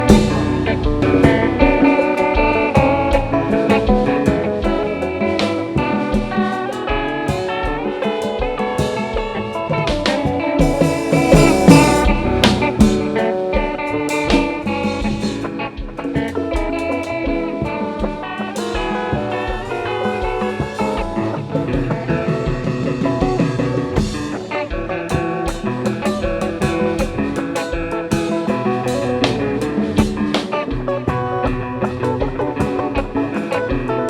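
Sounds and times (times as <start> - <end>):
band playing live: 0.0 - 34.0
guitar lines: 0.0 - 34.0
steady drum beat: 0.0 - 34.0.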